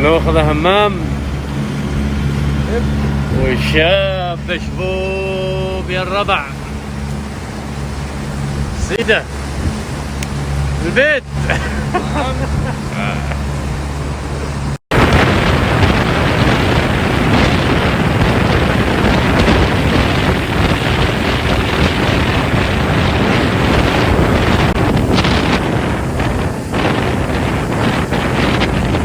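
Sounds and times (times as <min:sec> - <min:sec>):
rushing water and waves: 0:00.0 - 0:29.0
wind buffeting microphone: 0:00.0 - 0:29.0.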